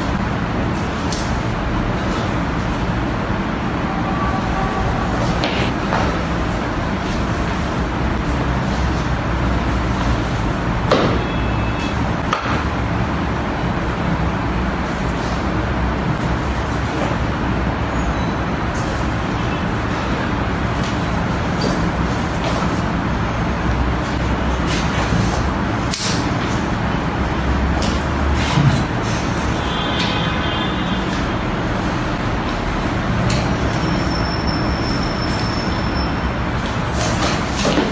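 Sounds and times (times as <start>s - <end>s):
steady rumbling background noise: 0.0s - 37.9s.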